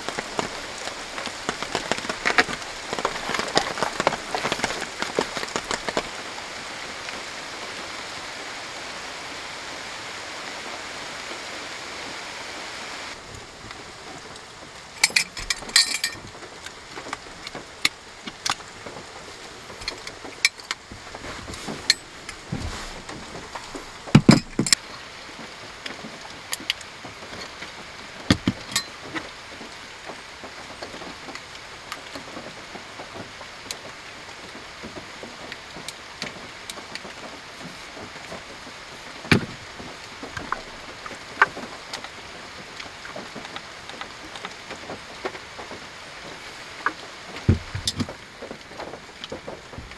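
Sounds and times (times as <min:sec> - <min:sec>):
rain on a car roof: 0:00.0 - 0:49.9.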